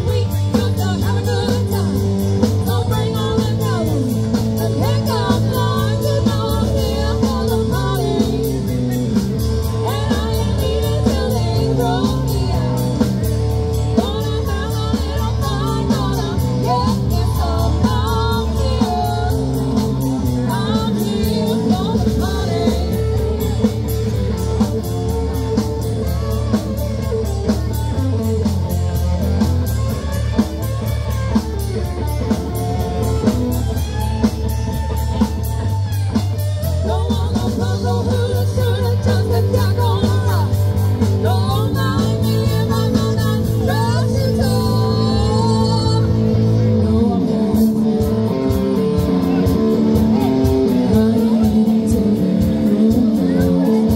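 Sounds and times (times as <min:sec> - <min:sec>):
man singing lead vocal: 0:00.0 - 0:27.0, 0:36.6 - 0:53.9
bass guitar: 0:00.0 - 0:53.9
drums keeping a steady beat: 0:00.0 - 0:53.9
electric guitar: 0:00.0 - 0:53.9
keyboards: 0:00.0 - 0:53.9.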